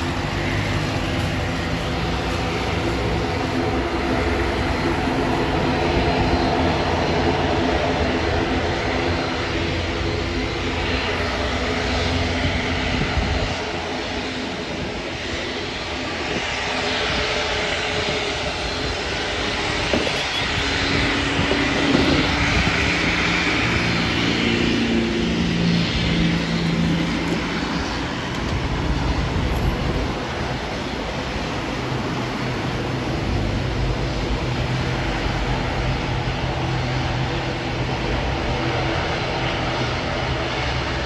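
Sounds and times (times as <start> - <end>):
airplane engine: 0.0 - 41.0.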